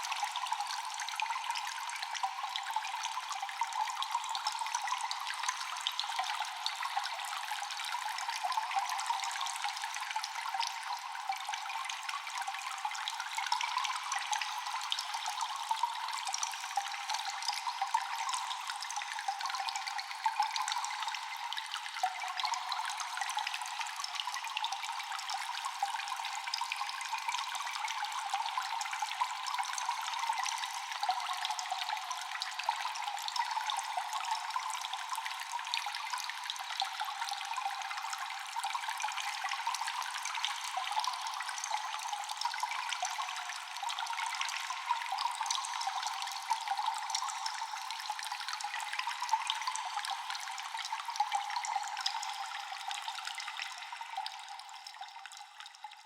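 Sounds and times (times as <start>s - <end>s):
water dripping in a cave: 0.0s - 56.0s
water trickling: 0.0s - 56.0s.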